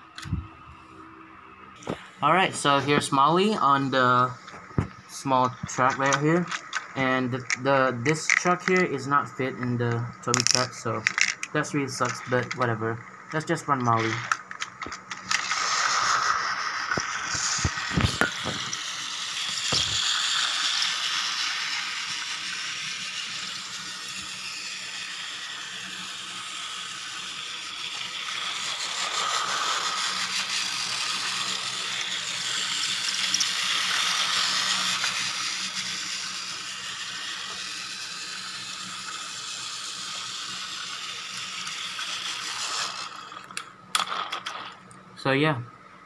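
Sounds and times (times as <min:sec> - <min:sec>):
toy train motor whirring: 0:03.5 - 0:45.0
wheels rattling on plastic track: 0:05.4 - 0:09.0, 0:09.6 - 0:44.8.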